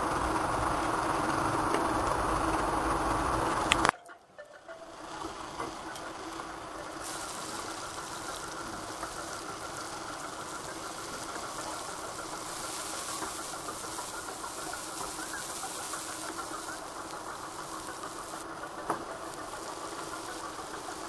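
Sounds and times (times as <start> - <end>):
hiss: 0.0 - 3.9, 4.6 - 21.0
steady hum: 0.0 - 21.0.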